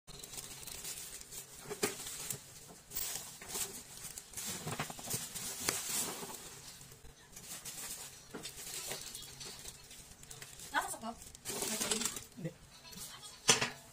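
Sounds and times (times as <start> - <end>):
plastic bags rustling: 0.1 - 12.6.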